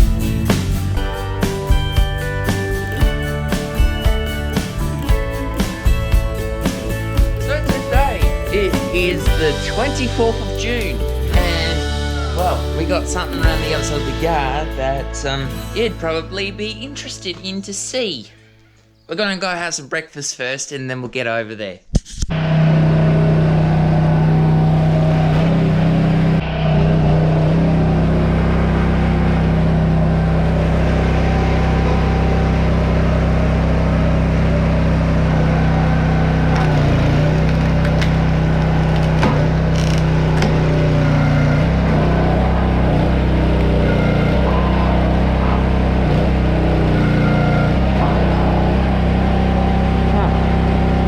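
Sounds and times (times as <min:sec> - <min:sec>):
large engine droning: 0:00.0 - 0:17.6, 0:22.4 - 0:51.0.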